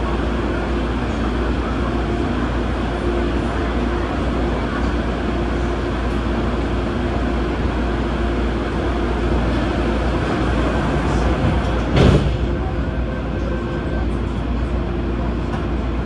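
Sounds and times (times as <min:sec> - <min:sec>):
steady train hum: 0:00.0 - 0:16.0
train wheels rumbling on rail: 0:00.0 - 0:16.0.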